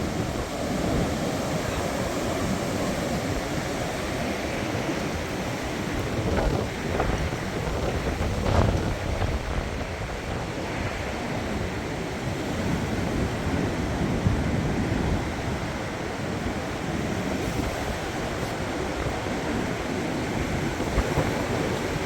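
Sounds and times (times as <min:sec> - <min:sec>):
strong storm wind: 0:00.0 - 0:22.0
wind buffeting microphone: 0:00.0 - 0:22.0.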